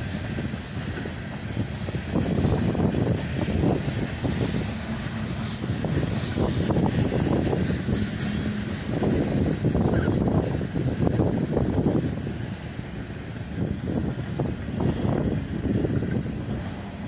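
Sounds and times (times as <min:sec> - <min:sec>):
freight train rumbling past: 0:00.0 - 0:17.0
train wheels clicking and rattling: 0:00.0 - 0:17.0.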